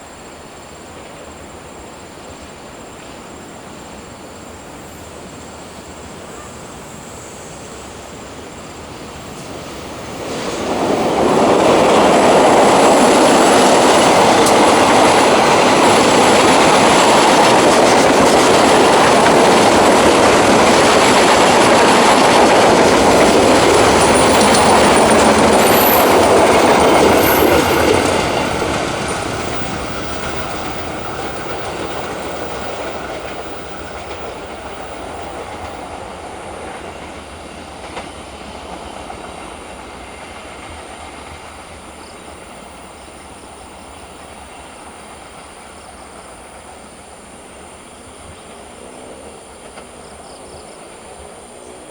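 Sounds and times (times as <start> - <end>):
train passing on rails: 0.0 - 51.9.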